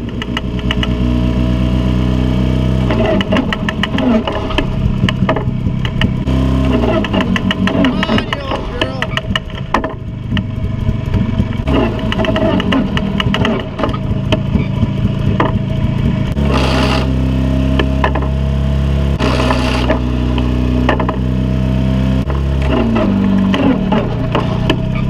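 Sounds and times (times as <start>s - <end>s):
tractor engine rattling: 0.0s - 25.0s.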